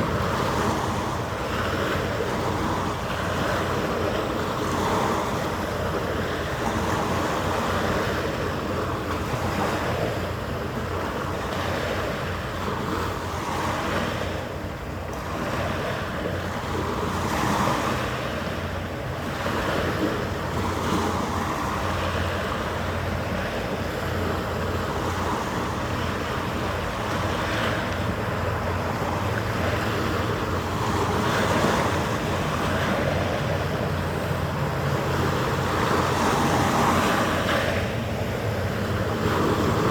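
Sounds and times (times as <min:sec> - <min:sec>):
rushing wind and water: 0:00.0 - 0:39.9.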